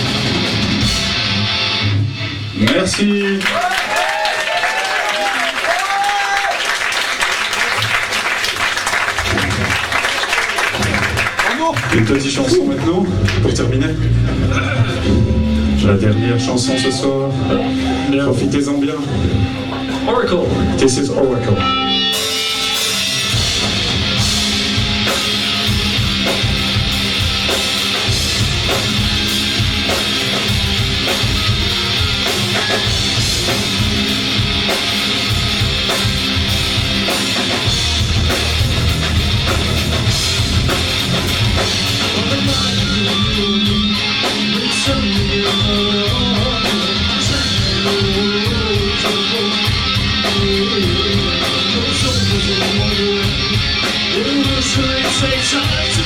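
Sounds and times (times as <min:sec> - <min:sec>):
rock band playing live: 0:00.0 - 0:03.4, 0:07.5 - 0:56.0.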